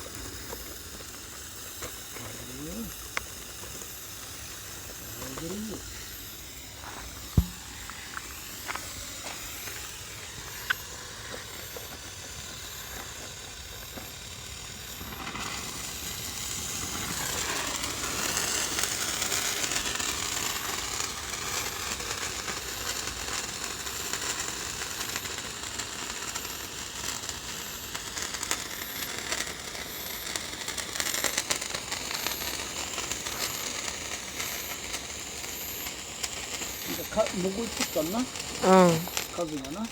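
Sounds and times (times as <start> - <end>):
handheld fireworks hissing: 0.0 - 39.9
sparks crackling: 0.0 - 39.9.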